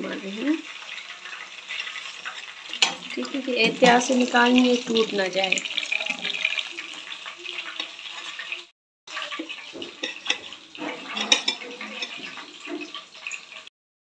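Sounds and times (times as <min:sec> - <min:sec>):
oil sizzling in frying pan: 0:00.0 - 0:13.7.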